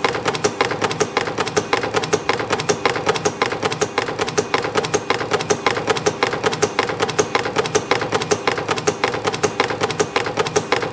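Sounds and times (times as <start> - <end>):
spring machine clicking: 0.0 - 10.9.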